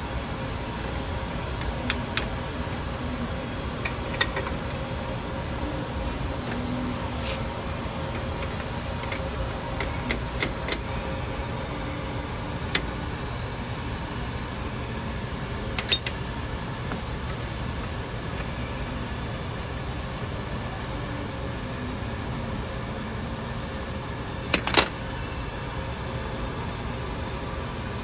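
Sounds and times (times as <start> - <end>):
low rushing hum: 0.0 - 28.0.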